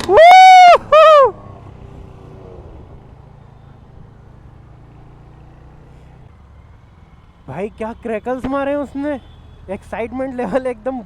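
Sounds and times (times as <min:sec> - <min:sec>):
engine idling: 0:00.0 - 0:09.2.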